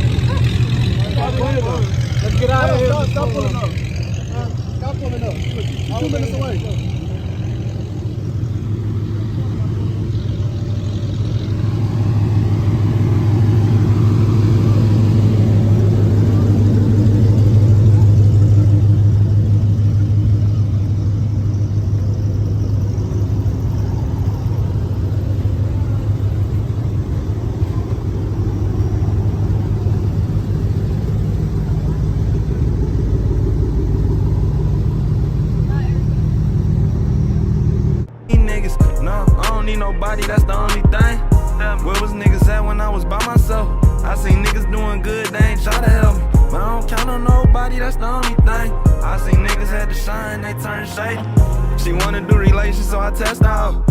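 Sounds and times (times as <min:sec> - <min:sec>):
car engine rumbling: 0:00.0 - 0:53.9.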